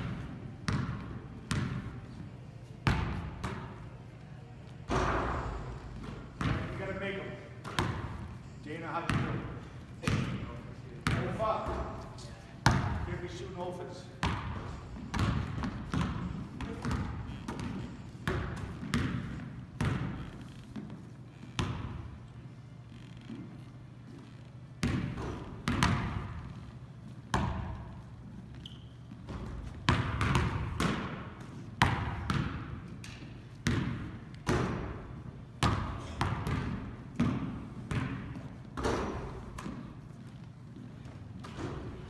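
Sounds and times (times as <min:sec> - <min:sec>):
basketballs bouncing on hardwood floor: 0:00.0 - 0:02.1, 0:04.9 - 0:13.2, 0:14.2 - 0:22.3, 0:23.3 - 0:42.0.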